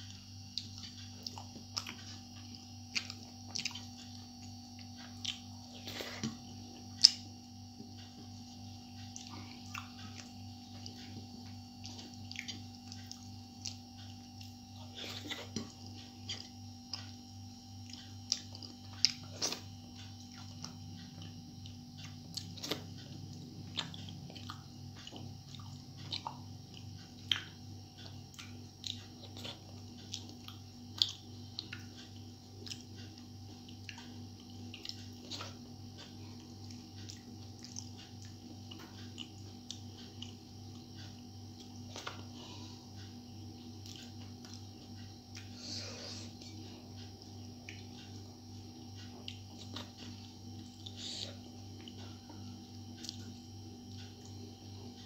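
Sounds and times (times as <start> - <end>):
steady low hum: 0.0 - 55.0
chewing mouth sounds: 0.6 - 7.2, 9.0 - 17.2, 17.8 - 43.2, 43.8 - 48.3, 49.0 - 52.3.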